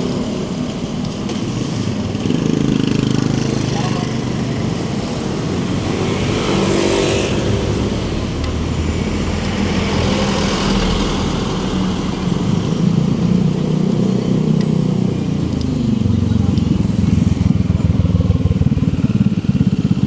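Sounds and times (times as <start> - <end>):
hiss of tyres and wind: 0.0 - 20.0
passing car engines: 0.0 - 20.0.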